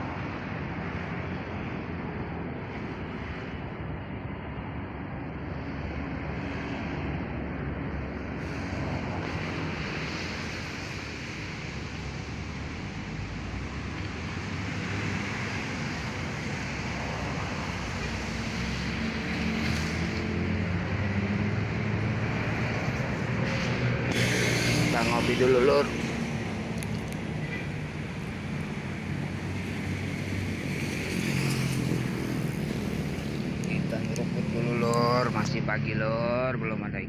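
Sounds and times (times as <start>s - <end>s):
vehicle engine hum: 0.0s - 37.0s
wind: 0.0s - 37.0s.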